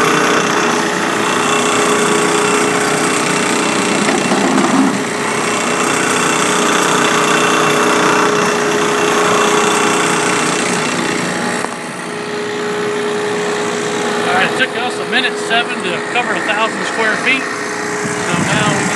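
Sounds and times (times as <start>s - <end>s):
small engine running: 0.0s - 18.9s.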